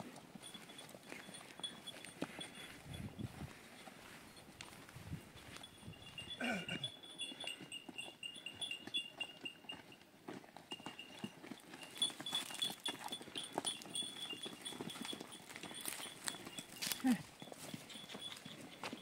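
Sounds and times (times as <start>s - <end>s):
hoof clicks: 0.0s - 19.0s
small bells jingling: 0.0s - 19.0s.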